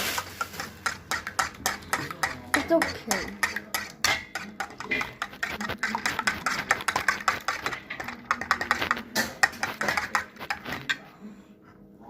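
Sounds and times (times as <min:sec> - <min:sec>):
fork beating eggs in a bowl: 0:00.0 - 0:11.2.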